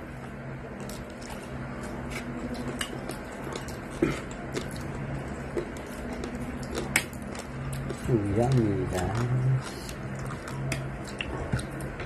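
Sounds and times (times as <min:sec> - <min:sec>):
steady low hum: 0:00.0 - 0:12.0
chewing mouth sounds: 0:00.7 - 0:12.0.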